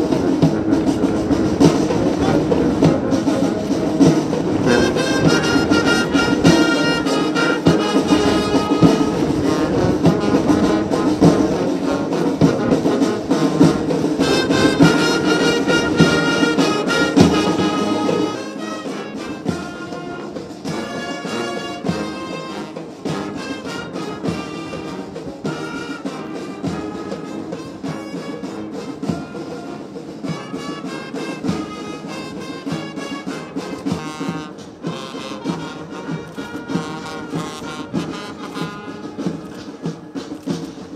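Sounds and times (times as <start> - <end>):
brass band playing: 0.0 - 40.9.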